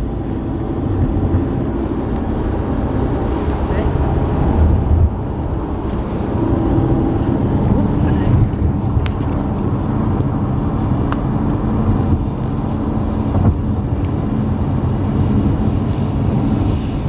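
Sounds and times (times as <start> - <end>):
car engine hum: 0.0 - 17.0
tyres on wet slushy road: 0.0 - 17.0.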